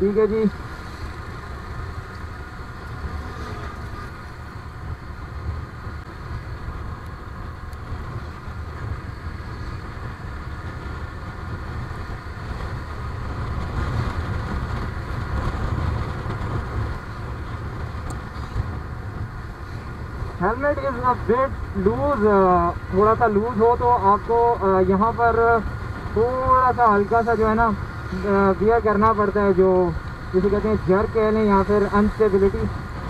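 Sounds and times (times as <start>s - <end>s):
wind and road rumble: 0.0s - 33.0s.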